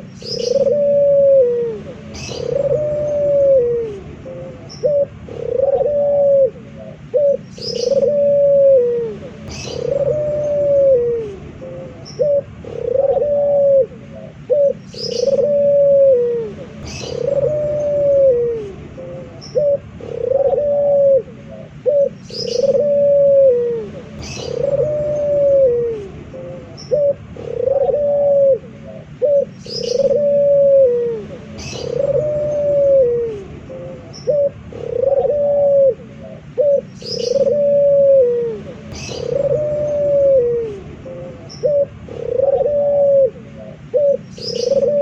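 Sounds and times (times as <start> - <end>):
dove cooing: 0.0 - 45.0.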